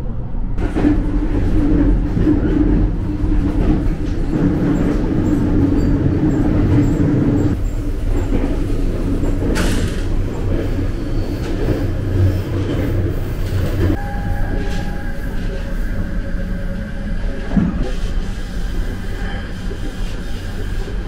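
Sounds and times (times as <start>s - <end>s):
train hum: 0.0s - 21.0s
train interior rumble: 0.0s - 21.0s.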